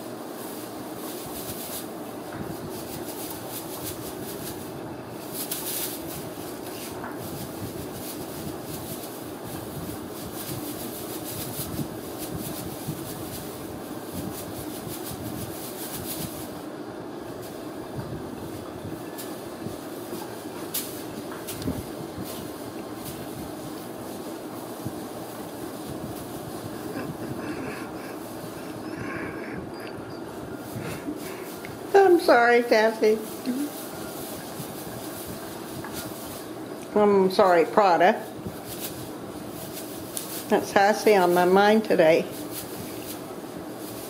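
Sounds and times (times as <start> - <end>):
tinsel crackly rustling: 0.0 - 44.0
steady low rumbling: 0.9 - 43.6.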